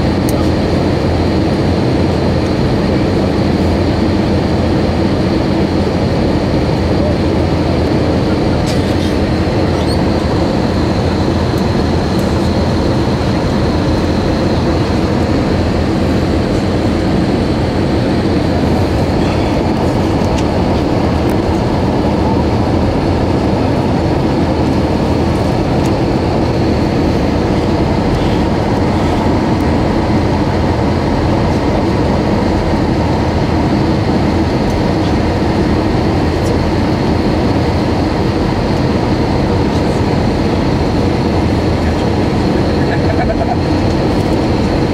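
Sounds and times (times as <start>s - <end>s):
airliner cabin engine rushing: 0.0s - 44.9s.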